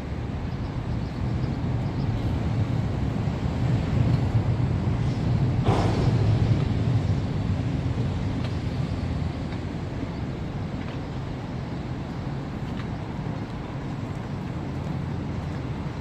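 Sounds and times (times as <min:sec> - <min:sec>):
low rumble of city noise: 0:00.0 - 0:16.0.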